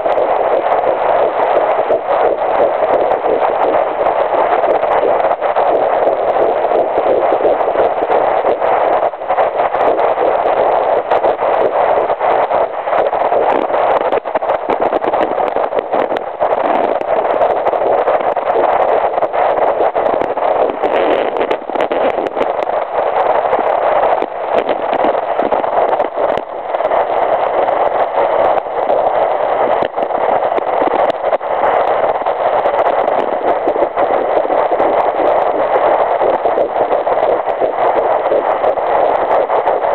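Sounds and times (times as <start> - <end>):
continuous hiss: 0.0 - 39.9
fetal heartbeat whooshing pulse: 0.0 - 39.9.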